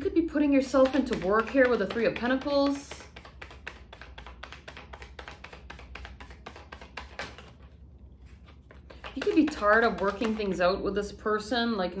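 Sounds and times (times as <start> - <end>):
cards being shuffled: 0.7 - 10.6.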